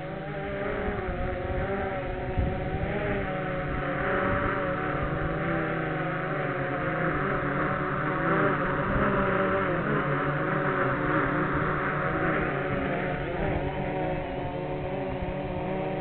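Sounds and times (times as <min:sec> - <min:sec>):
quadcopter propellers whining: 0:00.0 - 0:16.0
wind rumbling on microphone: 0:00.0 - 0:16.0.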